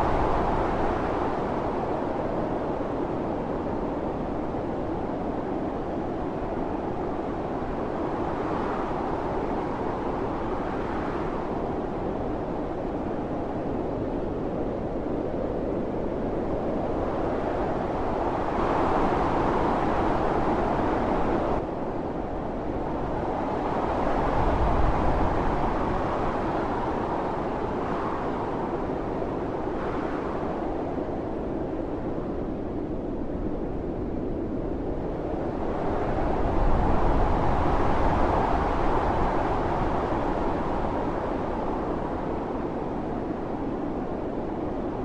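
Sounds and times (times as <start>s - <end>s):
storm wind gusting: 0.0s - 45.0s.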